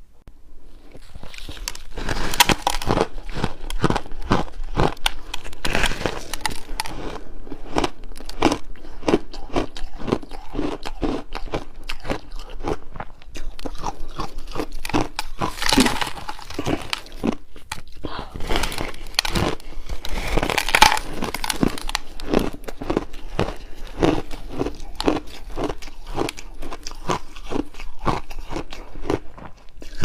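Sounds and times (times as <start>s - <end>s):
crunchy chewing of ice: 0.8s - 30.0s.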